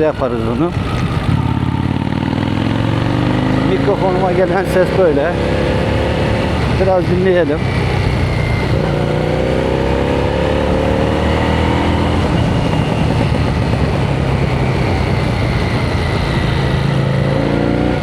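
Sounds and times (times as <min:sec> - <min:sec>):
car engine running: 0:00.0 - 0:17.2.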